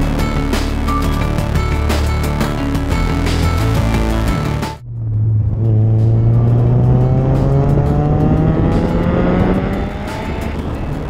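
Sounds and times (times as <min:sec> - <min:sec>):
car engine accelerating hard: 0:01.2 - 0:11.0.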